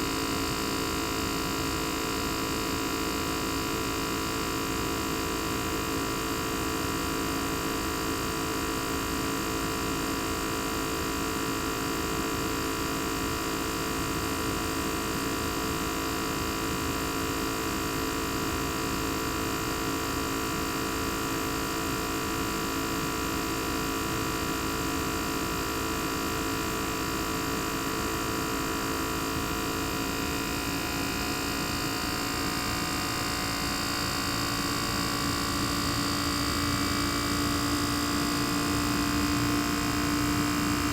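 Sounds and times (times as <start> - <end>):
compressor humming with whining tones: 0.0 - 40.9.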